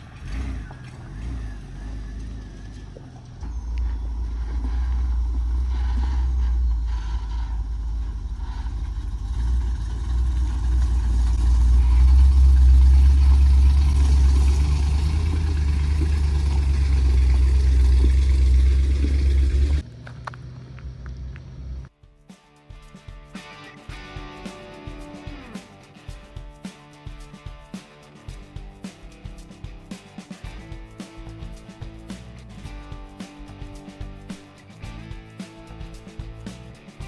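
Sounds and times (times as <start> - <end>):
vehicle engine running: 0.0 - 21.9, 28.2 - 37.0.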